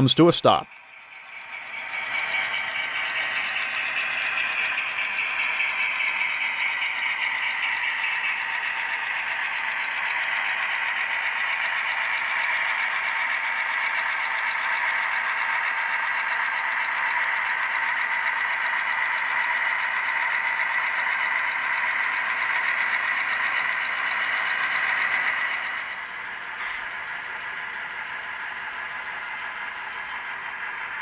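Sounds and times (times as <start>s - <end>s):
fast even clicking of train: 0.0s - 31.0s
model train running hum: 0.0s - 31.0s.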